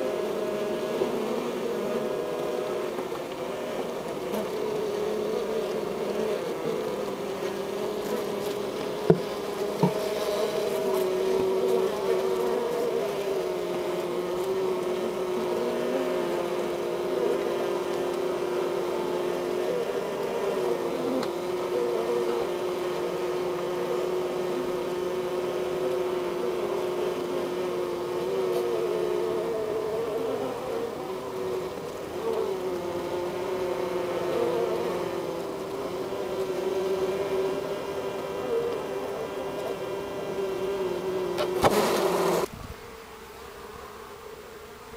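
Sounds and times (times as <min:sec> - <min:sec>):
bees buzzing in hive: 0:00.0 - 0:44.9.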